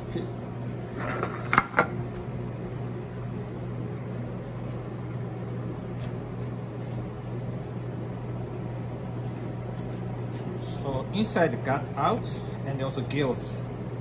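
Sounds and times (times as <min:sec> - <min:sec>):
kitchen equipment humming: 0:00.0 - 0:14.0.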